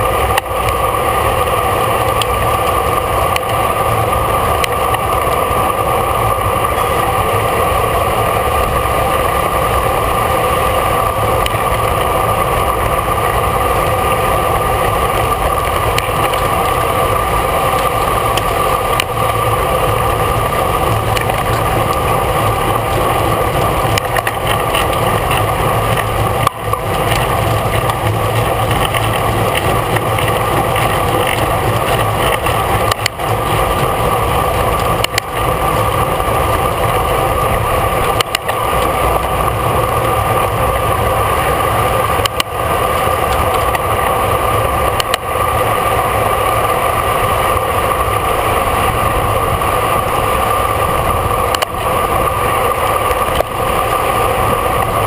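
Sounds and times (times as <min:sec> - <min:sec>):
bicycle road noise: 0:00.0 - 0:55.0
rush of wind: 0:00.0 - 0:55.0.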